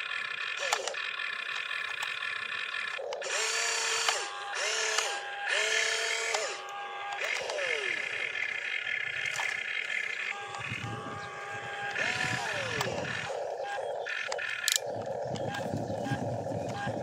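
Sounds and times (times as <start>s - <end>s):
electric motors whining: 0.0s - 17.0s
short rising motor whirs: 0.0s - 17.0s.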